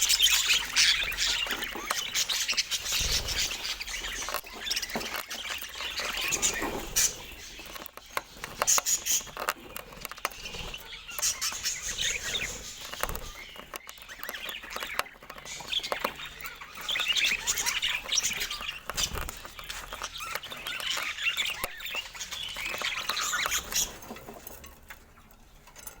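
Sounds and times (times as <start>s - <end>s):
budgerigars chattering and chirping: 0.0s - 25.6s.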